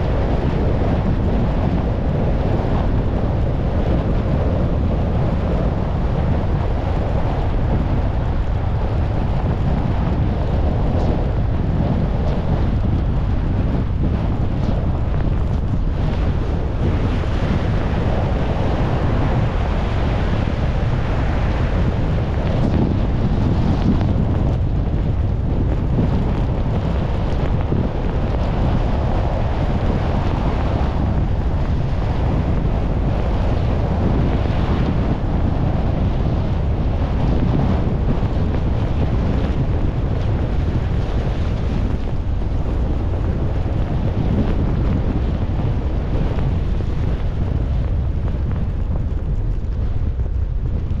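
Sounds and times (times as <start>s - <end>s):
car driving on wet road: 0.0s - 51.0s
rain: 0.0s - 51.0s
wind buffeting microphone: 0.0s - 51.0s.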